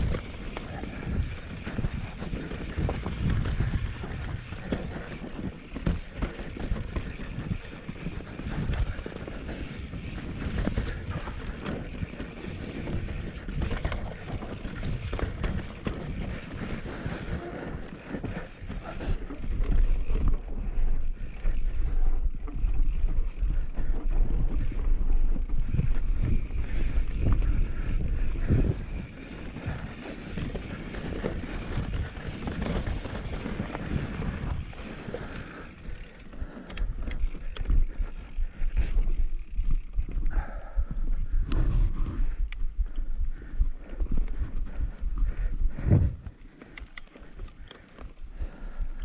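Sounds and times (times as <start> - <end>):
tyres running over dirt: 0.0 - 40.6
bike rattling and knocking: 0.0 - 42.4
wind buffeting microphone: 0.0 - 46.5.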